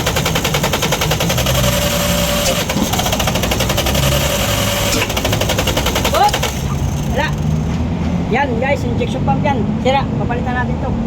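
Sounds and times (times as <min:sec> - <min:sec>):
diesel engine cranking: 0:00.0 - 0:09.2.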